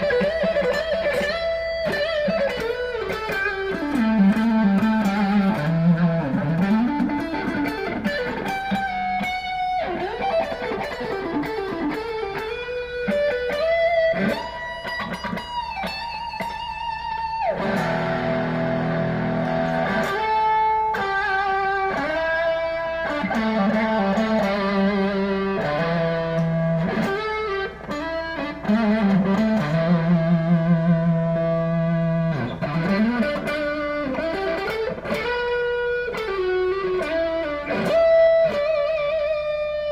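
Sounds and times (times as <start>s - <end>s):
electric guitar lead lines: 0.0s - 39.9s.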